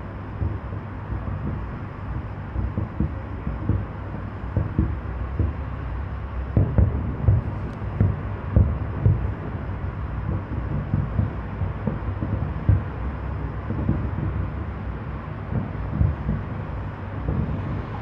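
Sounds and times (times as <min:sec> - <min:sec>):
steady low rumble: 0:00.0 - 0:18.0
distant fireworks booms: 0:00.1 - 0:18.0.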